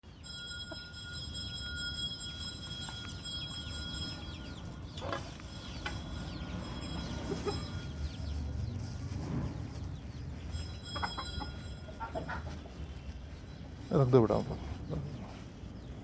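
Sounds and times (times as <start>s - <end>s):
chickens clucking: 0.1s - 16.0s.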